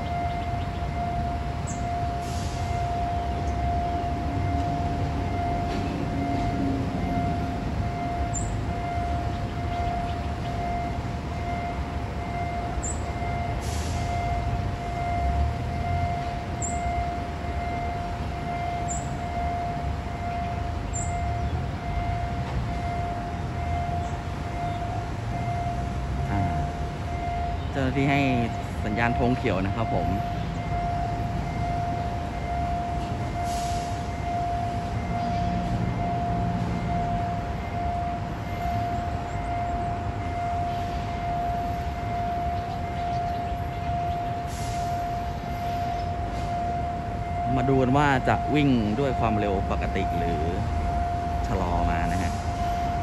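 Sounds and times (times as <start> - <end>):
level-crossing alarm tone: 0.0 - 53.0
traffic rumble: 0.0 - 53.0.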